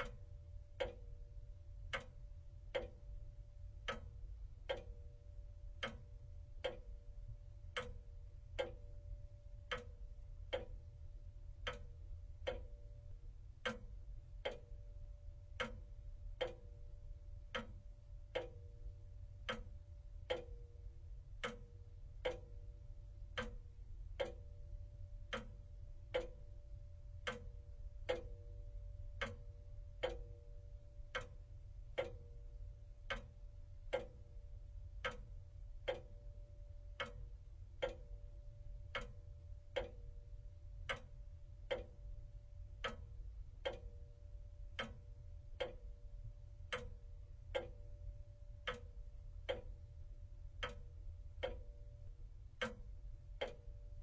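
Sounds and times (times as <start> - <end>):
faint low hum: 0.0 - 54.0
pendulum clock ticking: 0.0 - 54.0.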